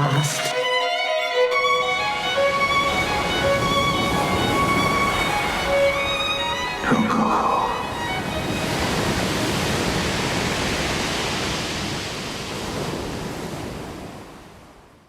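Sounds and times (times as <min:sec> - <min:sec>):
sea waves washing in: 0:02.0 - 0:15.0.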